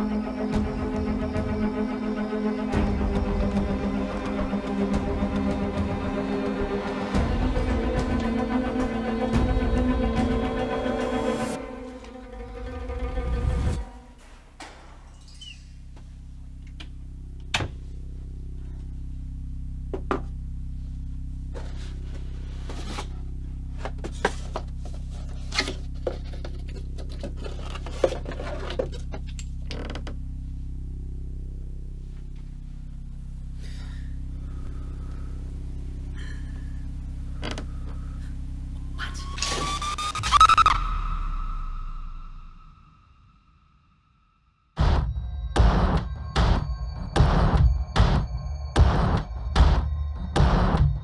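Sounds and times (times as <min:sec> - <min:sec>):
low steady drone: 0:00.0 - 0:51.0.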